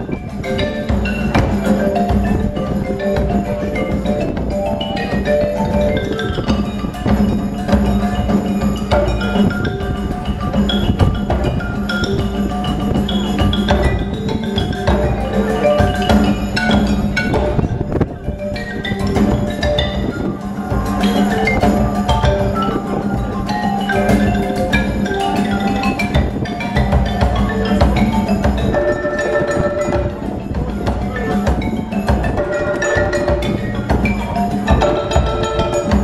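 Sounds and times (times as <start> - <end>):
drum and wood-block strokes: 0.0 - 36.0
marimba mallet runs: 0.0 - 36.0.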